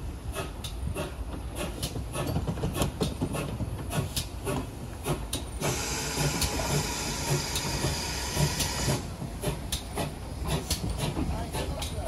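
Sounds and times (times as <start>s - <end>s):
train clicks and knocks: 0.0s - 12.0s
train rumble: 0.0s - 12.0s
steam hissing: 0.2s - 12.0s.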